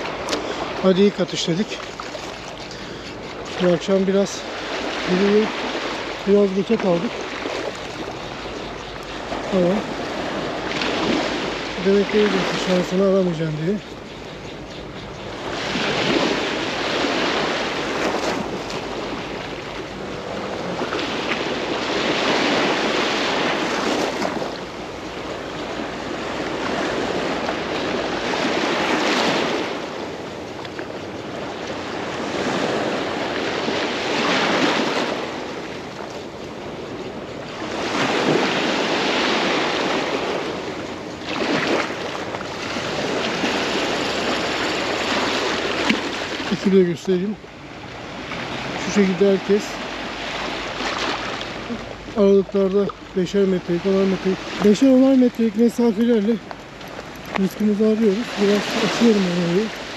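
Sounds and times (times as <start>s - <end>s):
small waves breaking on shore: 0.0s - 59.9s.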